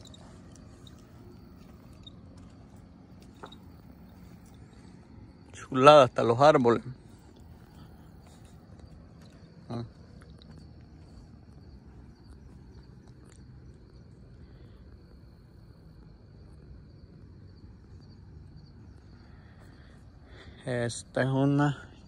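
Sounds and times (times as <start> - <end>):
crickets trilling: 0.0 - 22.0
faint low rumble: 0.0 - 22.0.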